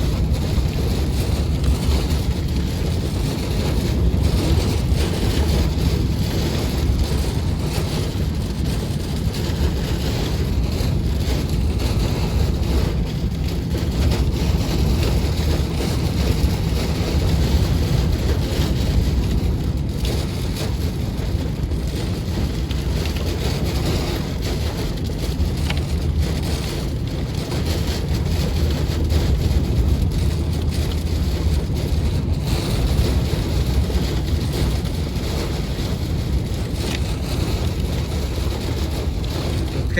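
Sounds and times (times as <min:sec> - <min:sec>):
heavy rain: 0:00.0 - 0:39.9
wind and road noise rumble: 0:00.0 - 0:39.9.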